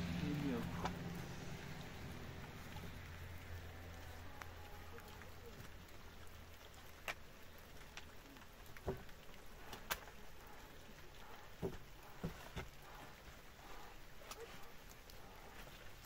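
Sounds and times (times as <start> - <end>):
low steady hiss: 0.0 - 16.0
faint sharp clicks and taps: 1.7 - 16.0.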